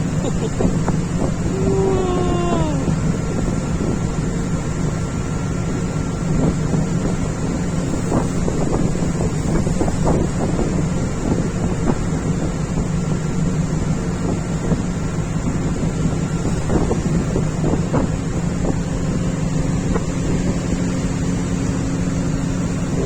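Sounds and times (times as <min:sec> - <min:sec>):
boat engine drone: 0:00.0 - 0:23.0
wind buffeting microphone: 0:00.0 - 0:23.0.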